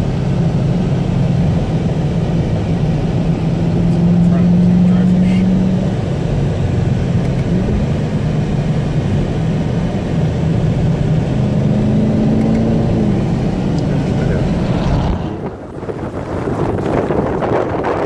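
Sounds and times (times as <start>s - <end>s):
car engine revving: 0.0s - 18.0s
low rumble: 0.0s - 18.0s.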